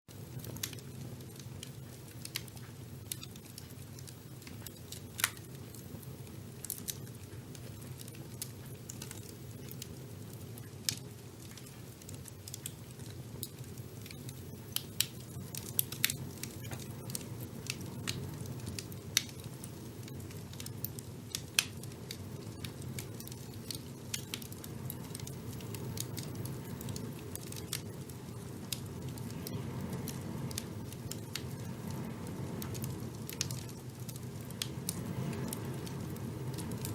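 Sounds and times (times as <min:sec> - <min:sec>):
fire rumbling and crackling: 0:00.1 - 0:36.9.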